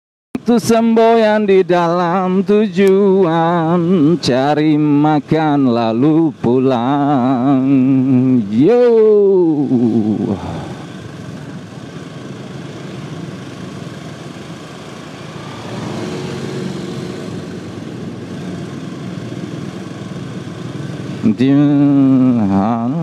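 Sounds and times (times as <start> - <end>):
motorcycle engine running: 0.4 - 23.0
wind and road noise: 0.4 - 23.0.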